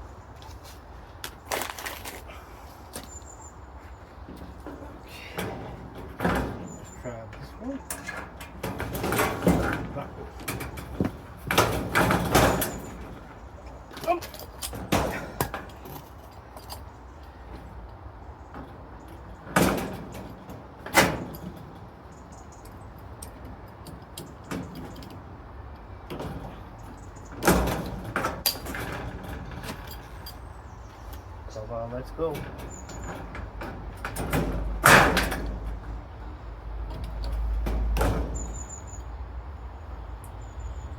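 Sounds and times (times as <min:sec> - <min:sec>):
metallic knocks and scraping: 0:03.8 - 0:39.1.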